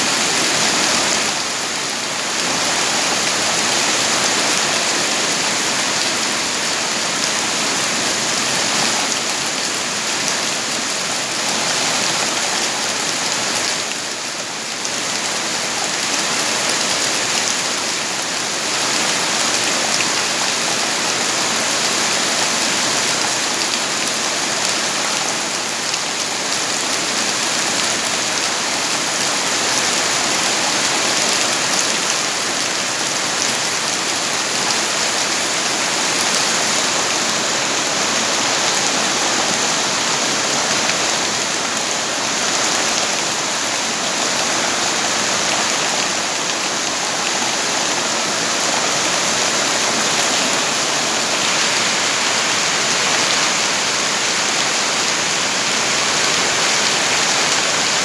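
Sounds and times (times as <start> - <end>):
dense rain falling: 0.0 - 58.0.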